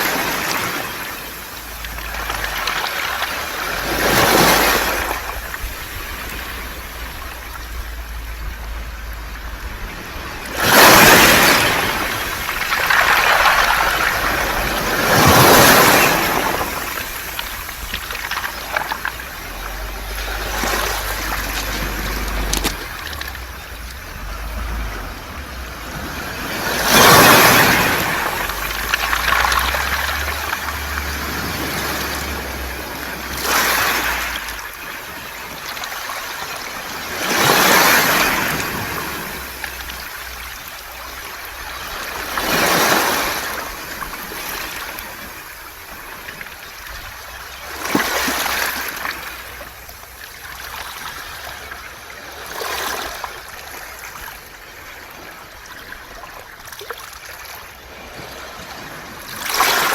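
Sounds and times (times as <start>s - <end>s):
waves washing over pebbles: 0.0s - 59.9s.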